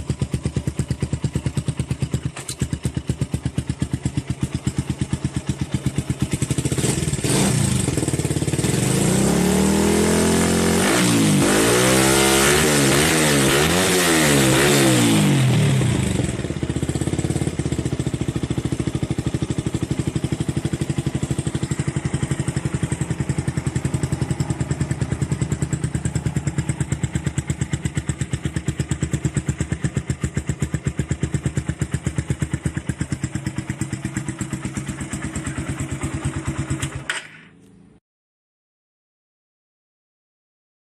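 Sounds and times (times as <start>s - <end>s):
motorcycle engine revving: 0.0s - 37.1s.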